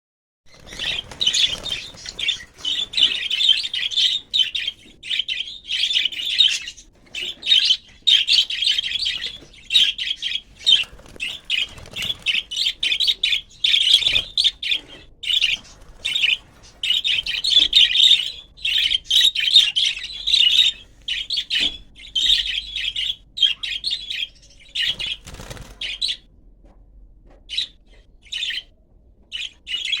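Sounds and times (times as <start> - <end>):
budgerigars chattering: 0.6 - 26.2.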